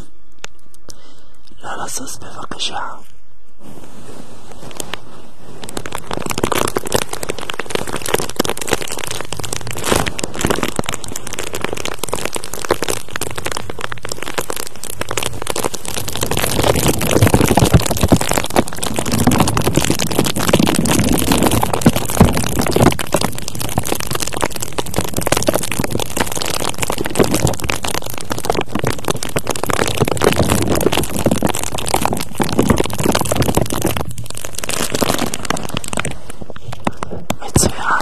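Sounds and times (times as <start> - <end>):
scratching and crackling on microphone: 0.0 - 38.0.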